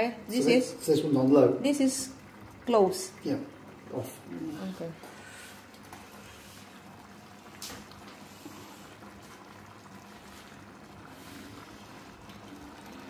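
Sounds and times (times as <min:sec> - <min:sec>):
pot simmering with bubbling hiss: 0:00.0 - 0:13.0.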